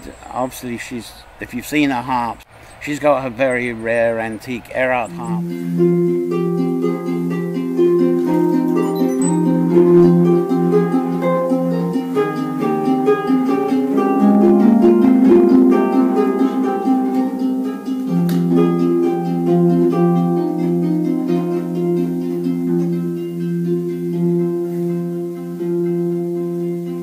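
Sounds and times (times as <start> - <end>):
harp notes plucked: 5.0 - 27.0.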